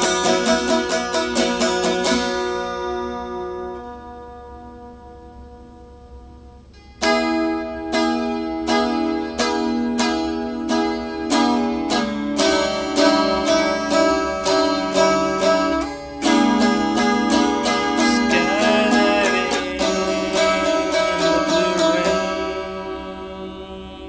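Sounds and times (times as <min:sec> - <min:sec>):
guitar chords: 0:00.0 - 0:24.0.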